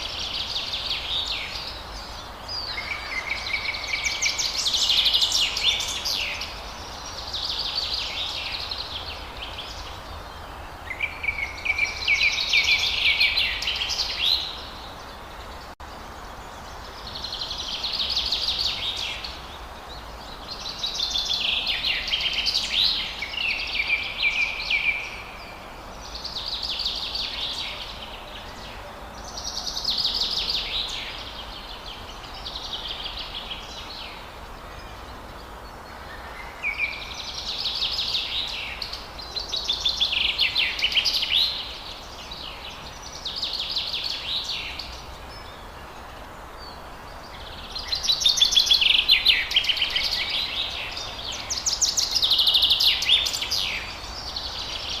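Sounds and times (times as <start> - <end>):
songbird trilling song: 0.0 - 55.0.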